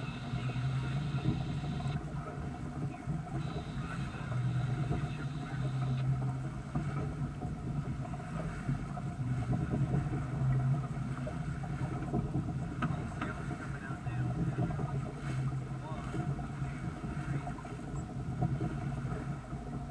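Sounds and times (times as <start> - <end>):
low rumble: 0.0 - 19.9
water rushing along boat hull: 0.0 - 19.9.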